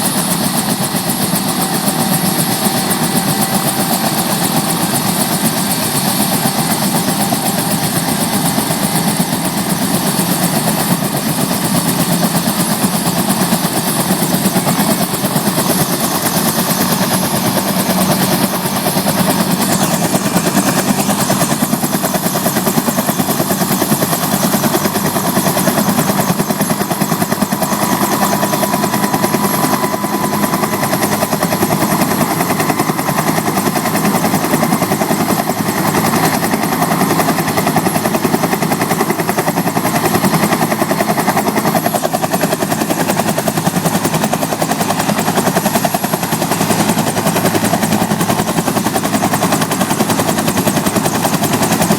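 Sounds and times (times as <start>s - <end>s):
helicopter rotor beating: 0.0s - 51.9s
turbine engine whine: 0.0s - 51.9s.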